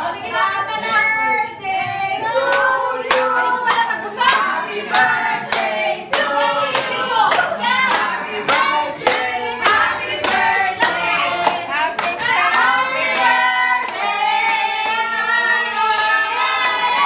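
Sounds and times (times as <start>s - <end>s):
group singing: 1.4s - 17.0s
people clapping in time: 2.4s - 17.0s.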